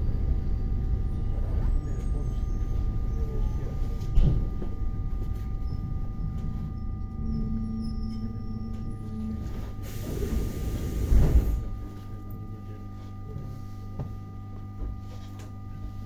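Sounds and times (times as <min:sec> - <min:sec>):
train carriage rumble and hum: 0:00.0 - 0:16.0.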